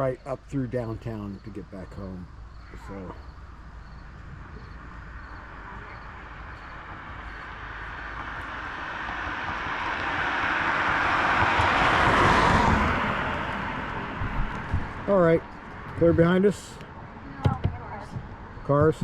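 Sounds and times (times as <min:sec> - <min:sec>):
vehicle passing on road: 0:00.0 - 0:19.0.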